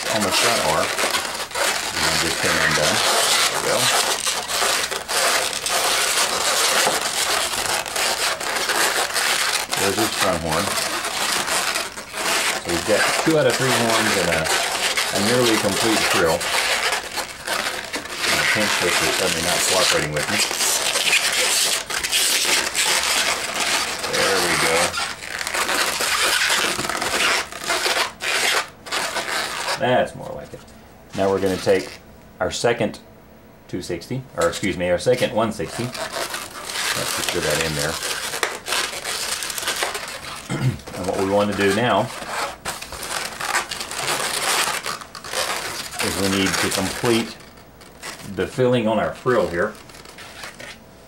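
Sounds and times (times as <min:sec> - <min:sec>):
balloons rubbing and squeaking: 0:00.0 - 0:32.0, 0:34.4 - 0:50.8.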